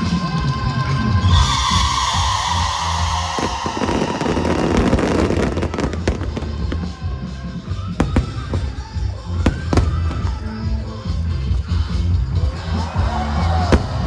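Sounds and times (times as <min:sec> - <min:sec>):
music playing: 0:00.0 - 0:14.0
fireworks crackling: 0:01.2 - 0:14.0.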